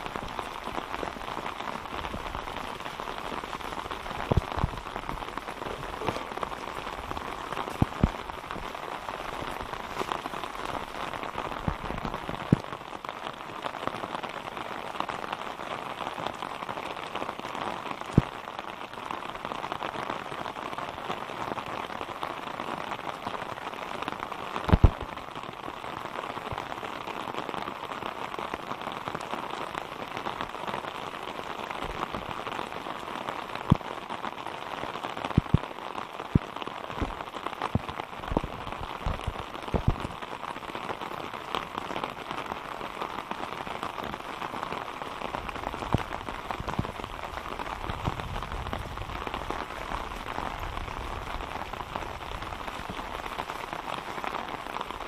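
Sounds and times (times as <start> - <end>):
rain falling on puddles: 0.0 - 55.0.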